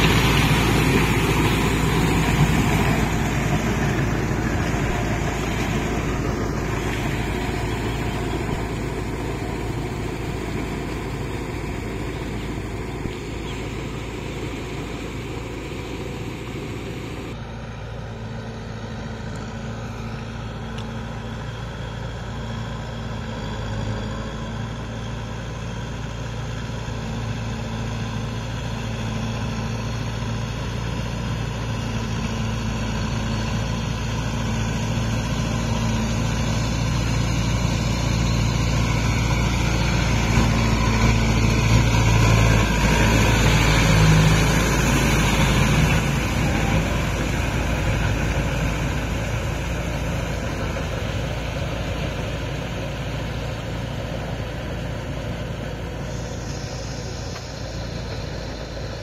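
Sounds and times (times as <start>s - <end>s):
tractor diesel engine running: 0.0s - 59.0s
water and mud churning: 0.0s - 59.0s.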